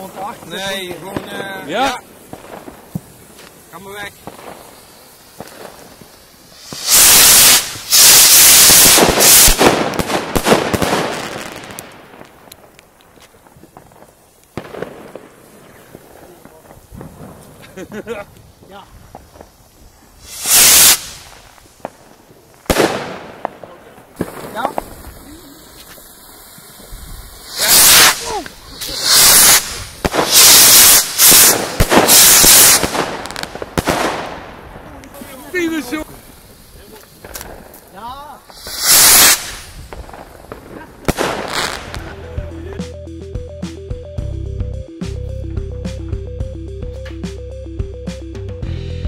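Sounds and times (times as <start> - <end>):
rockets launching with whooshes: 0.0 - 42.3
fireworks cracking and popping: 0.0 - 43.0.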